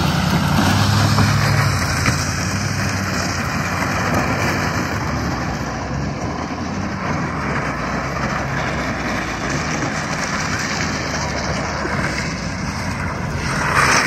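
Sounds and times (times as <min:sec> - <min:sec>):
diesel truck engine running: 0:00.0 - 0:14.0
steady rushing noise: 0:00.0 - 0:14.0.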